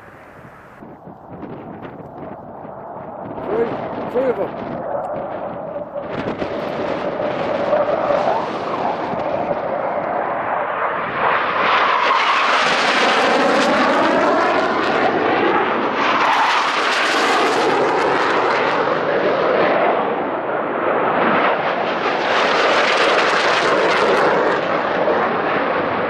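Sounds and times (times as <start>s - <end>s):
low-flying aircraft passing: 0.0s - 26.0s.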